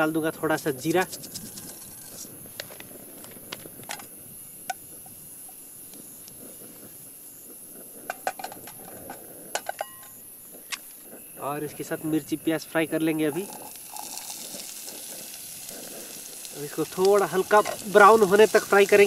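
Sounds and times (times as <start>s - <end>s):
sharp pops and crackles: 0.0s - 11.3s, 13.0s - 19.0s
seeds sizzling in hot oil: 0.0s - 19.0s.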